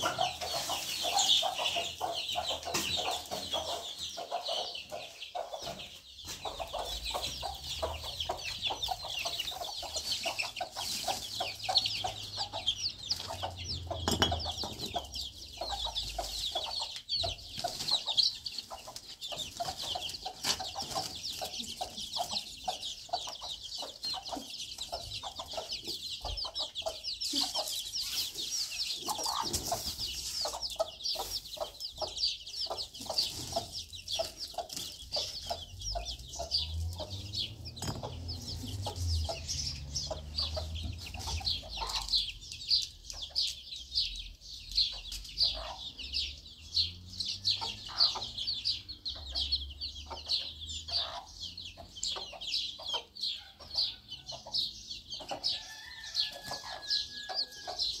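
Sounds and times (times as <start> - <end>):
hen clucking: 0.0 - 43.6, 44.7 - 46.4, 47.0 - 58.0
chicks peeping: 0.0 - 58.0.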